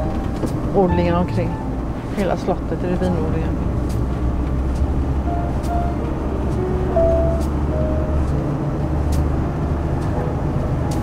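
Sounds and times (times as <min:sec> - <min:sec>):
engine and road drone: 0:00.0 - 0:11.0.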